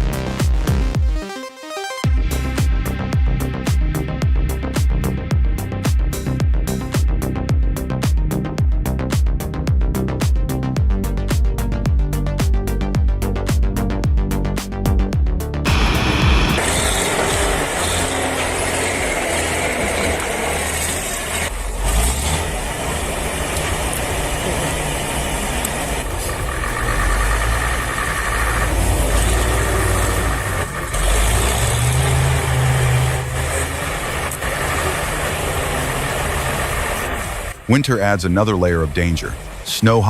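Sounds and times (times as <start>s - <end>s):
heavy vehicle engine rumbling: 2.1s - 40.0s.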